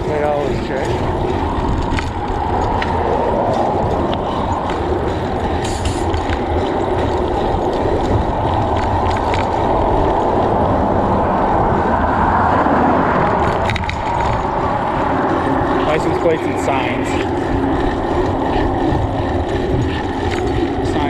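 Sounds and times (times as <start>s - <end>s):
tyres running on road: 0.0s - 21.0s
wind buffeting microphone: 0.0s - 21.0s.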